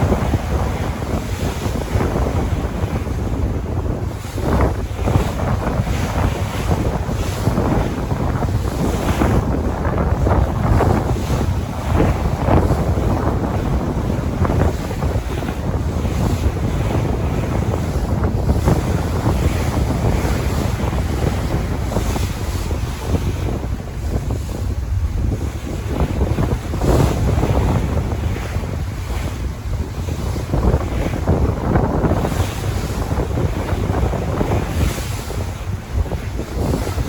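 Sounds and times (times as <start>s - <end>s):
sea waves washing: 0.0s - 37.0s
wind buffeting microphone: 0.0s - 37.0s.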